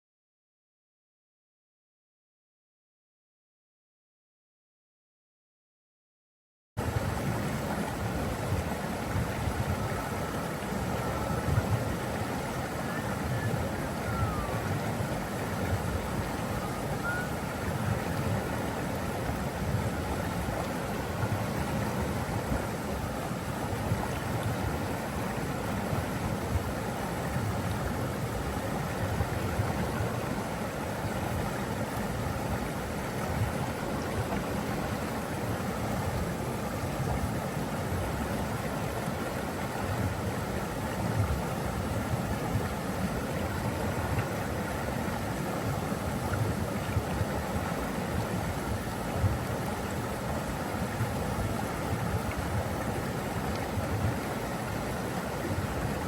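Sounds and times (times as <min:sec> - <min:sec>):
rushing flowing water: 0:06.8 - 0:56.0.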